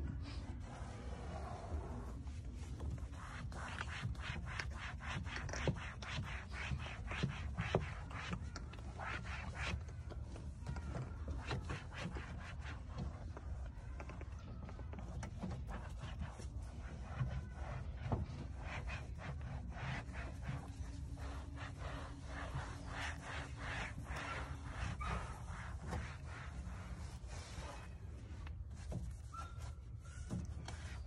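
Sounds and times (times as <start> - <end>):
cloth rubbing on vinyl: 0.0 - 31.0.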